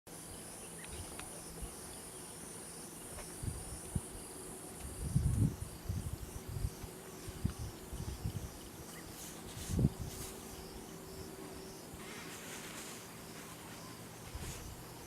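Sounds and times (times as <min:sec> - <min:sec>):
high-pitched insect chorus: 0:00.1 - 0:15.0.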